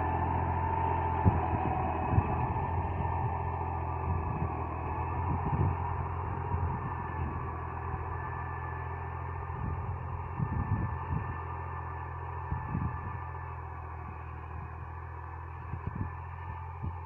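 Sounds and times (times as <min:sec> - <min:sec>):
wind buffeting microphone: 0:00.0 - 0:08.4, 0:09.2 - 0:11.6, 0:12.4 - 0:14.9, 0:15.6 - 0:17.0
diesel tractor engine running: 0:00.0 - 0:17.0.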